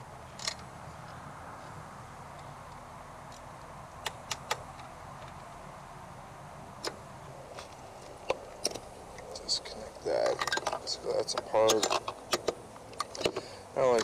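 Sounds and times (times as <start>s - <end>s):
steady outdoor hiss: 0.0s - 14.0s
light clicks of plastic and bolts: 0.3s - 5.5s, 6.8s - 9.4s, 10.2s - 14.0s.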